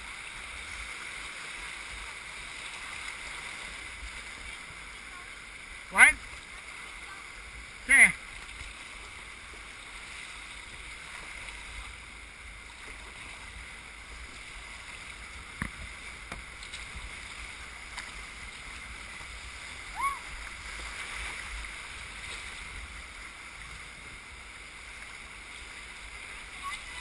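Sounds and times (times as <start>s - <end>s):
whitewater rushing: 0.0s - 27.0s.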